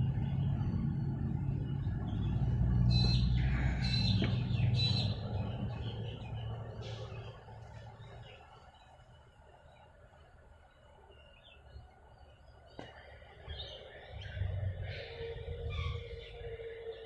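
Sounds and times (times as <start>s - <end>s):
birds chirping: 0.0s - 17.0s
low steady drone: 0.0s - 17.0s.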